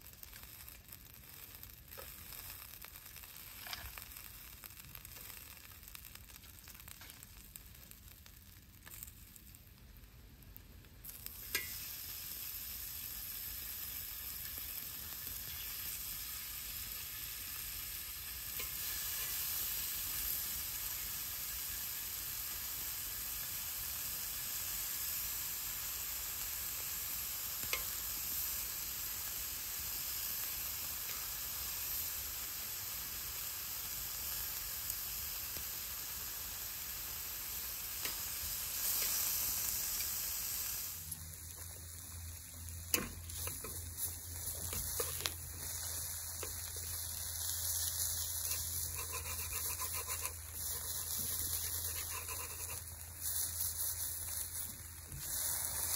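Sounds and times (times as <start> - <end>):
meat sizzling on a griddle: 0.0 - 55.9.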